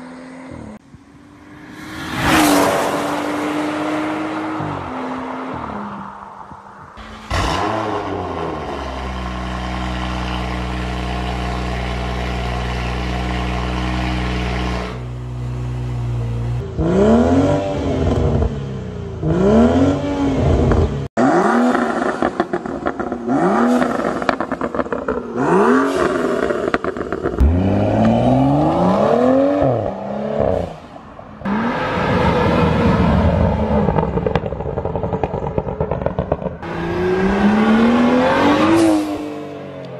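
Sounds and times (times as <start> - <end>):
car engine revving: 7.0 - 30.8, 31.4 - 39.9.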